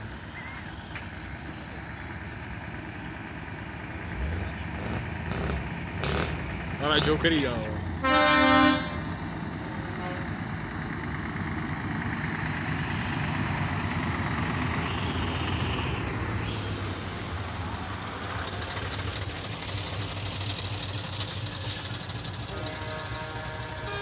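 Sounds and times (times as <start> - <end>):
tyre and road noise: 0.0 - 22.5
truck diesel engines rumbling: 0.0 - 24.0.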